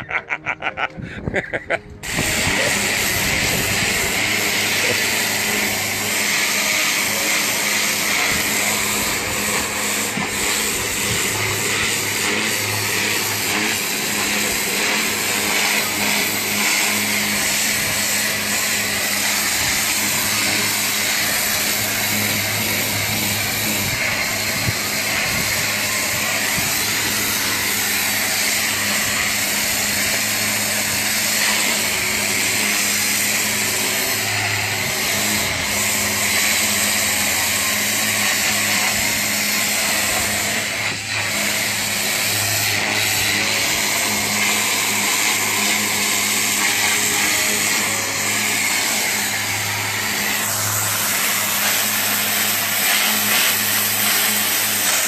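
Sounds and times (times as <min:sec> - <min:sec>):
pressure washer jet hissing: 0:00.0 - 0:55.0
steady machine hum: 0:00.0 - 0:55.0.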